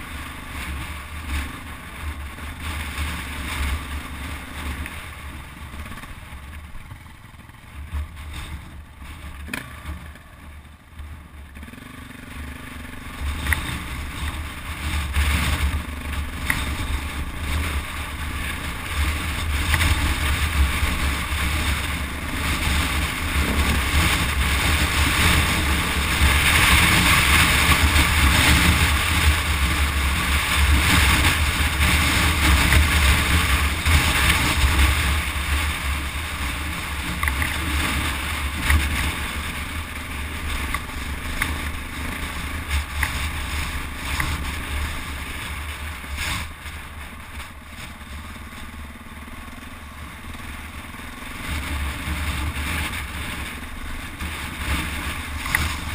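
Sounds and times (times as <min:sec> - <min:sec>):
trail bike engine running: 0:00.0 - 0:55.9.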